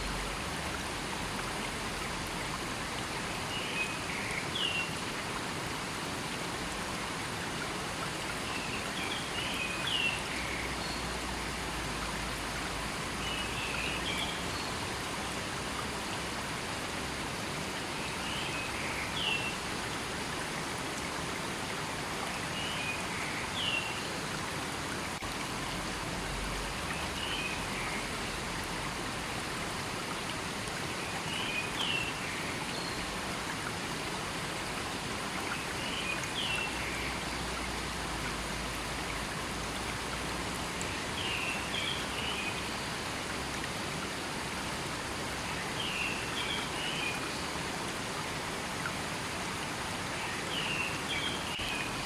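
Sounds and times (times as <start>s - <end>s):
river water flowing over rocks: 0.0s - 52.0s.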